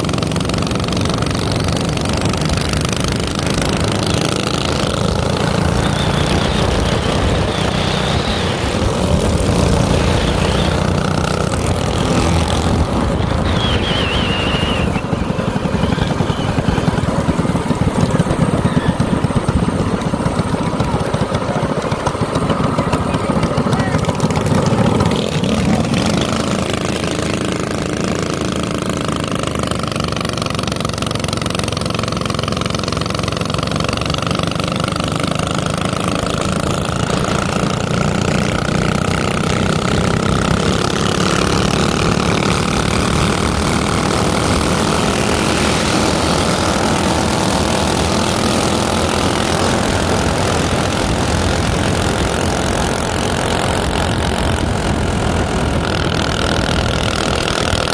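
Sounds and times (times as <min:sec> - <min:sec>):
minibike engine running: 0:00.0 - 0:57.9.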